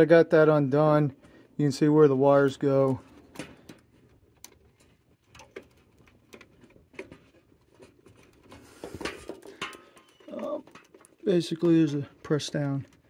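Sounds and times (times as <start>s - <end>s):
faint clicks and rustles of wiring: 2.3s - 13.0s.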